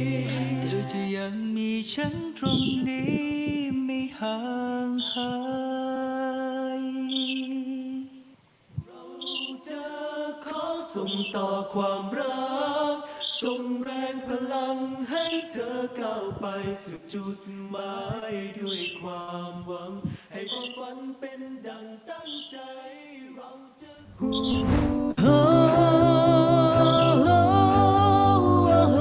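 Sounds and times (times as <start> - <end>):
unaccompanied singing voices: 0.0 - 29.0.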